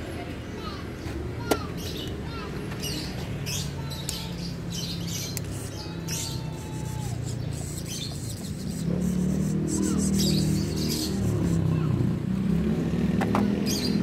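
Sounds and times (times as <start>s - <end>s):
birds chirping: 0.0s - 12.2s, 12.9s - 14.0s.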